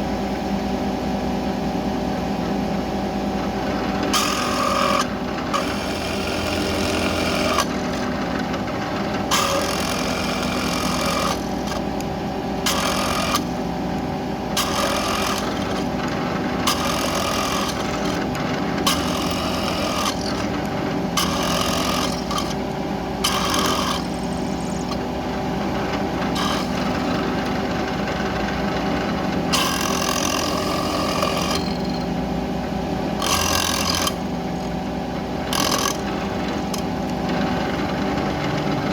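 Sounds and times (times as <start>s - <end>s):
milling machine spindle hum: 0.0s - 38.9s
harsh metal cutting noise: 3.6s - 32.2s, 33.0s - 38.9s.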